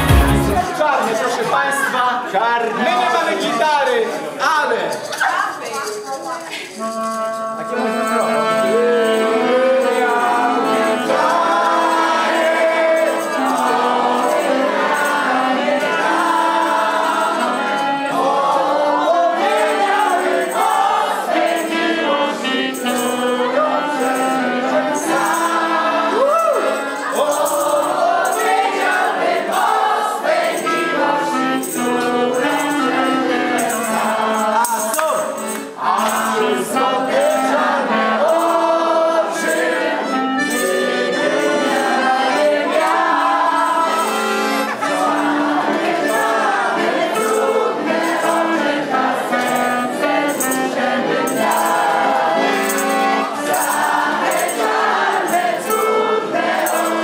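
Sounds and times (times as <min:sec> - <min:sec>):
accordion and clarinet music: 0:00.0 - 0:00.9, 0:05.3 - 0:57.0
group singing along: 0:00.0 - 0:01.2, 0:07.7 - 0:57.0.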